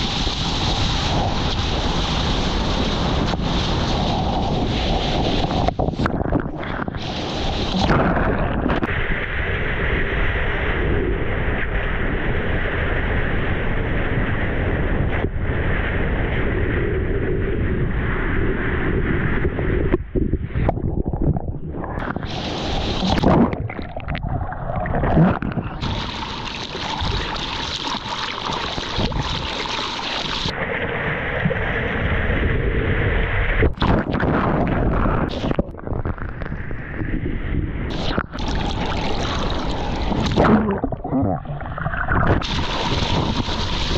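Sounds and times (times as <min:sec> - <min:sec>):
rushing whitewater and surf: 0:00.0 - 0:16.9, 0:18.0 - 0:43.9
wind buffeting microphone: 0:00.0 - 0:26.1, 0:30.4 - 0:43.9.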